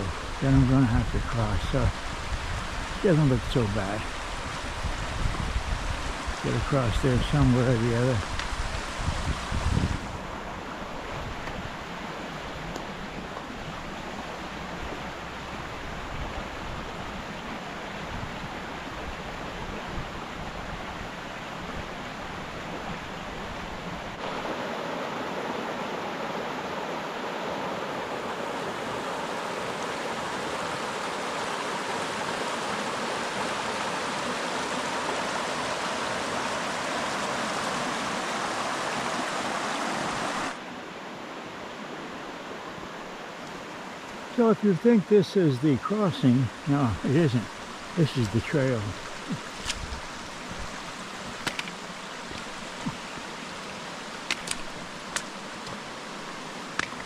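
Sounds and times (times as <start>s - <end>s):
rushing stream water: 0.0s - 57.0s.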